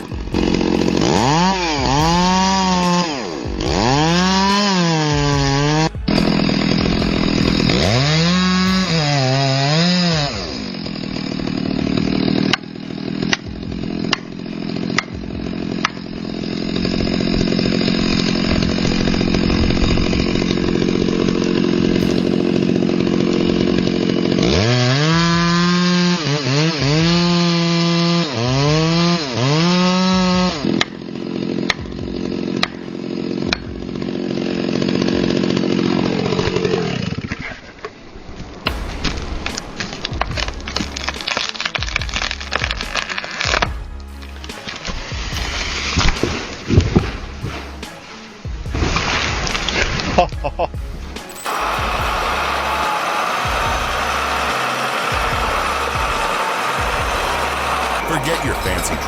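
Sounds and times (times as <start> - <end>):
chainsaw engine revving: 0.0 - 37.6, 38.7 - 50.2, 50.8 - 59.0
chainsaw cutting wood: 0.0 - 37.9, 38.7 - 59.0.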